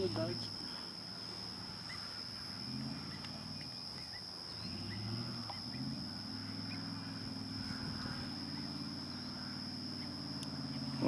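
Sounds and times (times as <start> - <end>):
faint bird chirps: 0.0 - 11.0
high insect drone: 0.0 - 11.0.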